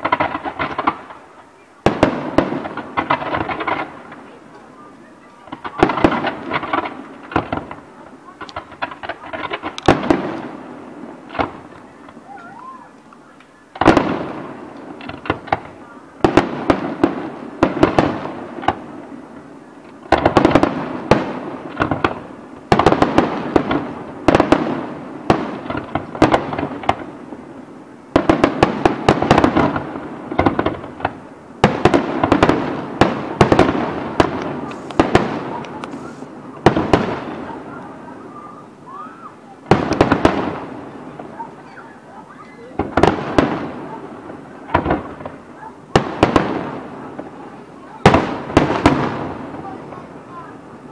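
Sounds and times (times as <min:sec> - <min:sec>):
firework crackling: 0:00.0 - 0:50.9
firework shells bursting: 0:00.0 - 0:50.9.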